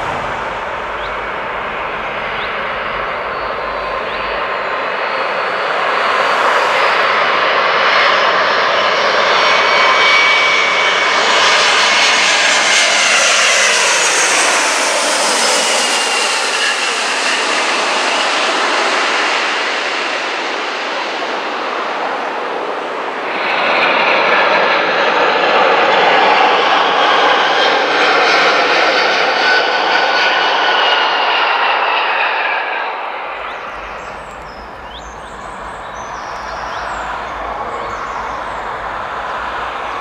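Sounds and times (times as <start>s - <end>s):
jet engines passing overhead: 0.0s - 40.0s.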